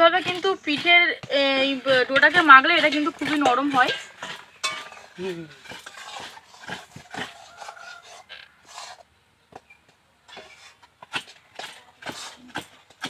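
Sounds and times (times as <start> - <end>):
utensil scraping dough in a wok: 0.0 - 13.0.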